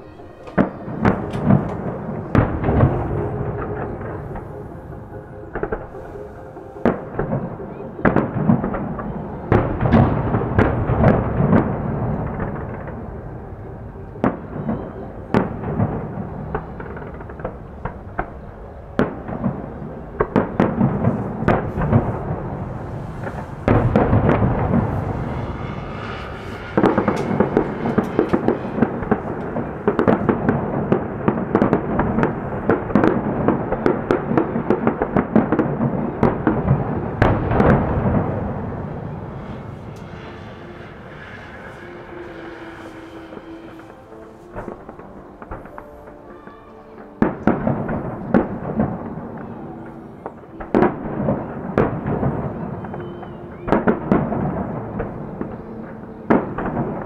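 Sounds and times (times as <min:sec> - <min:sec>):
fireworks bursting: 0:00.0 - 0:57.0
fireworks crackling: 0:00.0 - 0:57.0.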